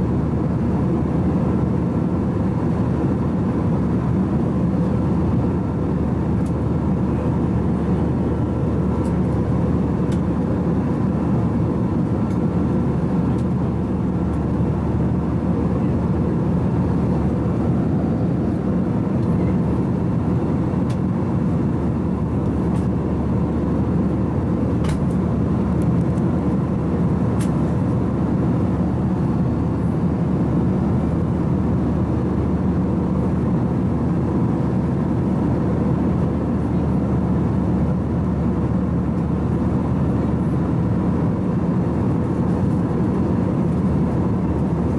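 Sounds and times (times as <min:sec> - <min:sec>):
airliner cabin roar: 0:00.0 - 0:44.9.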